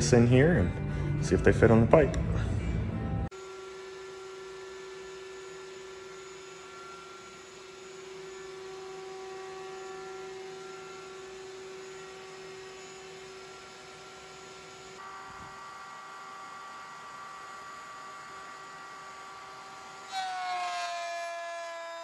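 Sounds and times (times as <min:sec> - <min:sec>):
electric motor whining: 0:03.3 - 0:22.0.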